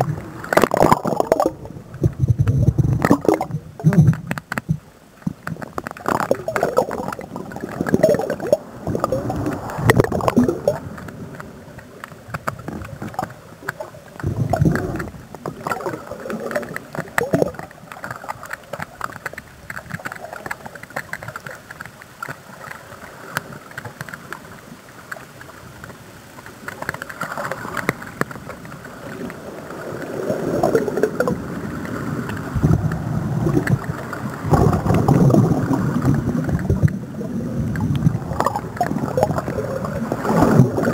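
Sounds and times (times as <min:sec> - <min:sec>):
muffled water sloshing and gurgling: 0:00.0 - 0:40.9.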